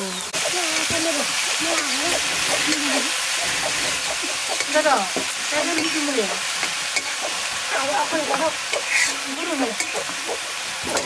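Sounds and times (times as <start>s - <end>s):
vegetables sizzling in a wok: 0.0s - 11.0s
metal spatula scraping pan: 0.4s - 11.0s.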